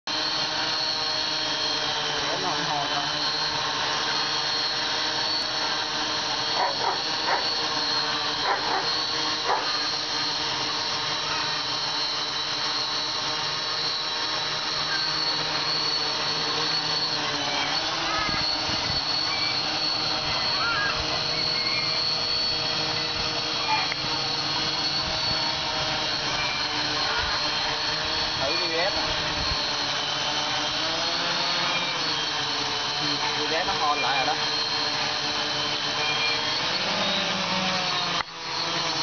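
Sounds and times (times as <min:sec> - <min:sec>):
multicopter motors buzzing: 0:00.0 - 0:39.0.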